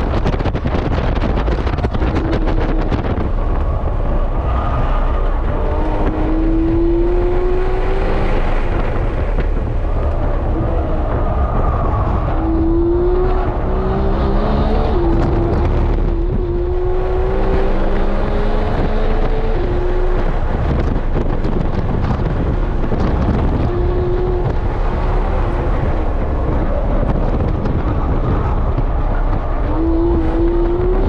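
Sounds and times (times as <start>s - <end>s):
car engine at full throttle: 0.0s - 31.0s
road and wind noise: 0.0s - 31.0s.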